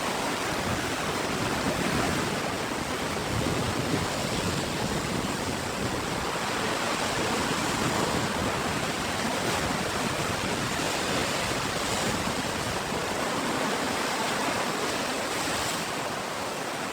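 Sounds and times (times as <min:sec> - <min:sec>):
waves washing on shore: 0:00.0 - 0:16.9.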